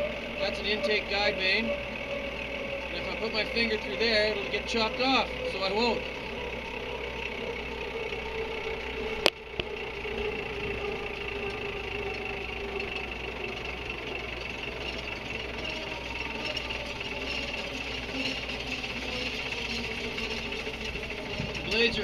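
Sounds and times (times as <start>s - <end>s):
compressor whir and hum: 0.0s - 22.0s.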